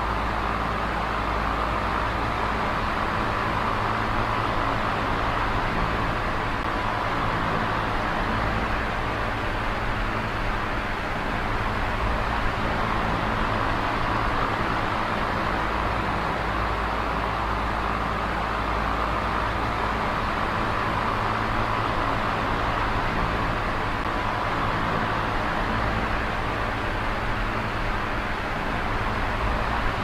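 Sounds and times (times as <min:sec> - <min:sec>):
electric fan whirring: 0:00.0 - 0:30.0.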